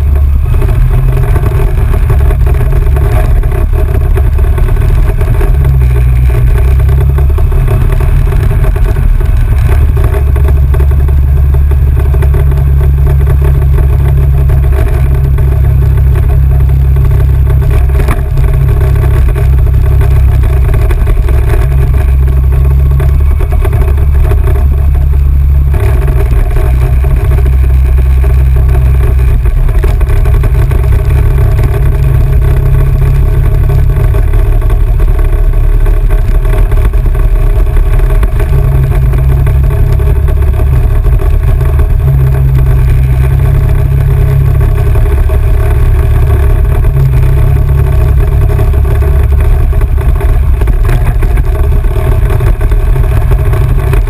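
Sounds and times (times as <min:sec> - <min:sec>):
quad engine running: 0:00.0 - 0:54.0
wind rumble on microphone: 0:00.0 - 0:54.0.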